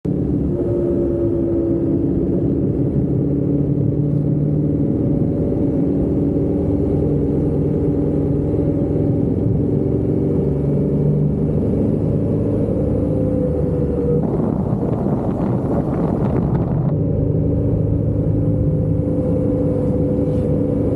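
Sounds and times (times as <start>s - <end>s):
road noise: 0.0s - 20.9s
vehicle engine driving: 0.0s - 20.9s.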